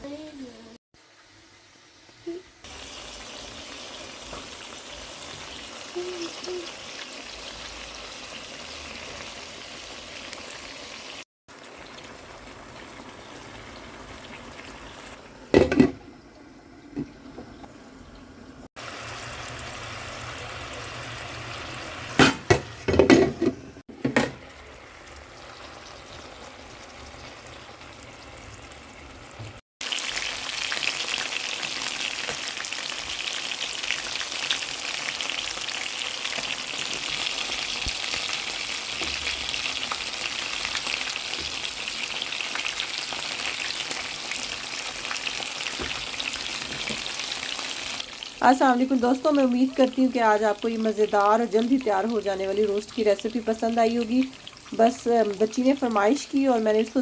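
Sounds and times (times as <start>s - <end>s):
chicken sizzling in a pan: 0.0s - 15.6s, 18.8s - 23.1s, 24.1s - 57.0s.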